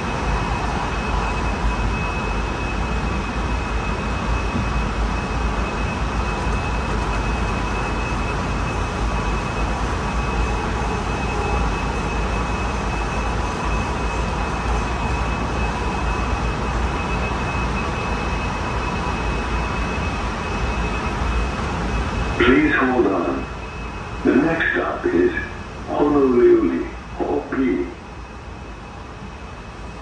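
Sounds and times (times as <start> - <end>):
steady high tone: 0.0 - 28.2
train rumble: 0.0 - 30.0.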